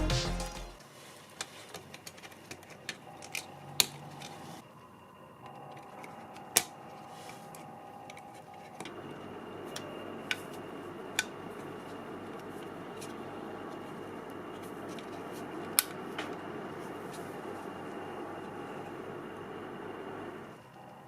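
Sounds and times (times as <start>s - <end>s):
steady hum and hiss: 0.0s - 21.0s.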